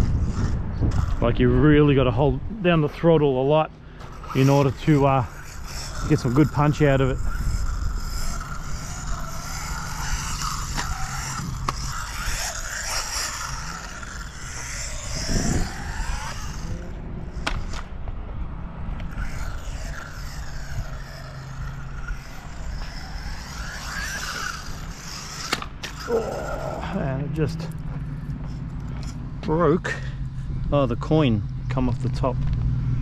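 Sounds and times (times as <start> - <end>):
electric motor whining: 0.0 - 31.7
small tyres scraping on concrete: 0.0 - 33.0.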